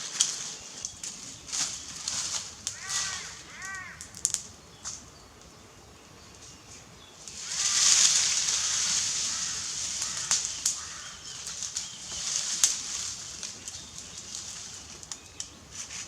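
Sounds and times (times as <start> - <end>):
bonfire crackling and hissing: 0.0 - 16.0.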